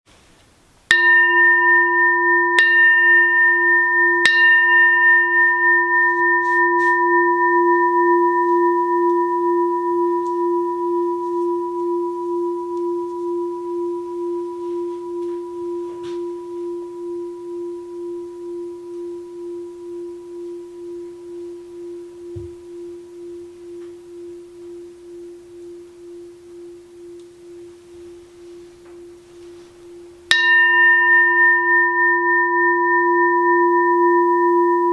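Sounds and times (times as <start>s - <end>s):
bowl bell struck and ringing: 0.9s - 34.9s.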